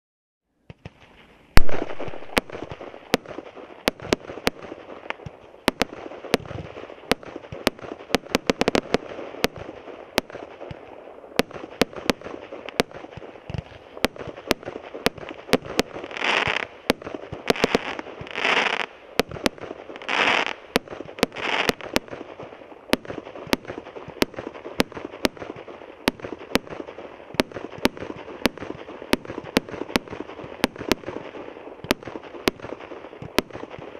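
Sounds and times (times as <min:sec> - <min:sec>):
fireworks crackling: 0:00.6 - 0:33.9
fireworks popping: 0:00.6 - 0:33.9
fireworks bang: 0:00.7 - 0:33.9
fireworks hissing bursts: 0:00.7 - 0:33.9.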